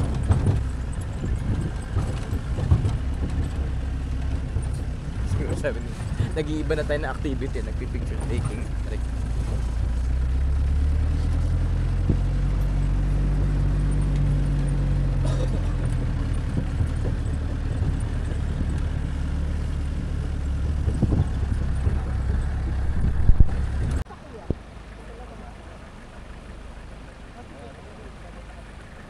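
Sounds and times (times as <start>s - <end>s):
knocks and rattles from bumps: 0.0s - 24.0s
jeep engine running: 0.0s - 29.0s.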